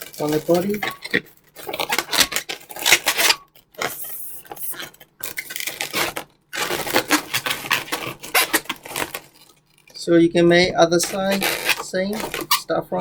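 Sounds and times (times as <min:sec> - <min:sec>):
rubber balloons rustling: 0:00.0 - 0:13.0.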